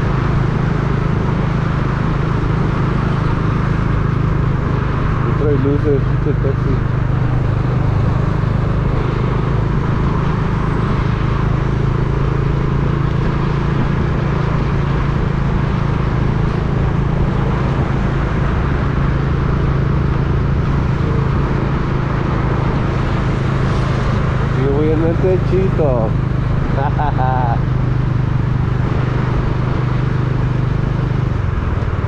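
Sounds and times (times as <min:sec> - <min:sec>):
road and traffic noise: 0:00.0 - 0:32.0
vehicle engine running: 0:00.0 - 0:32.0.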